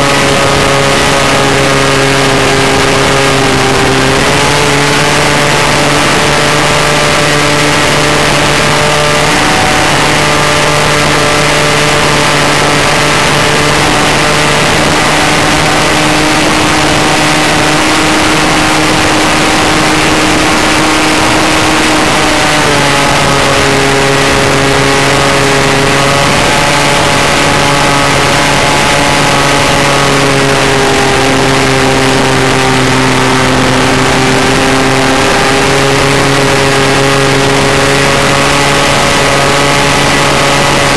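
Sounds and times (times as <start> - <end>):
model airplane engine drone: 0.0 - 40.9.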